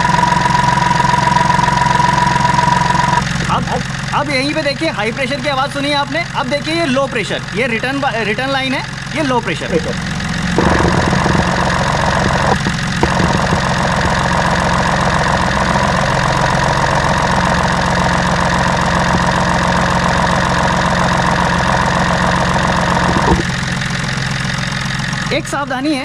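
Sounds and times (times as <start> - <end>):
diesel engine clatter and ticking: 0.0 - 26.0.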